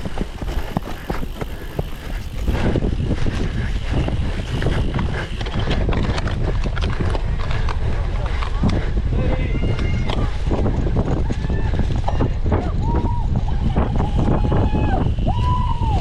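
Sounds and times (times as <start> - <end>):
bike frame rattling: 0.0 - 16.0
bike tyres rumbling on dirt: 0.0 - 16.0
wind buffeting microphone: 0.0 - 16.0.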